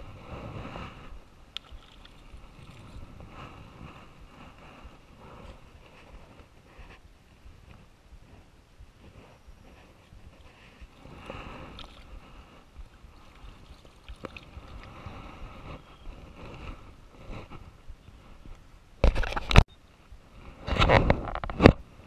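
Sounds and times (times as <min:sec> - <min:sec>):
clothing and dry grass rustling: 0:00.0 - 0:18.7.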